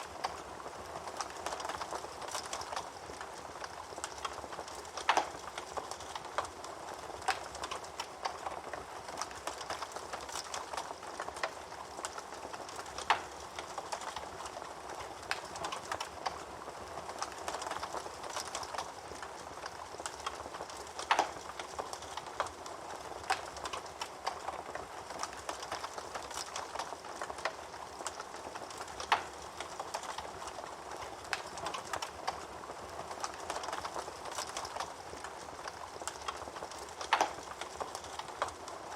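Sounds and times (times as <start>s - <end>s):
wood fire crackling: 0.0s - 38.9s
loud pops of burning wood: 1.1s - 16.4s, 17.1s - 38.7s.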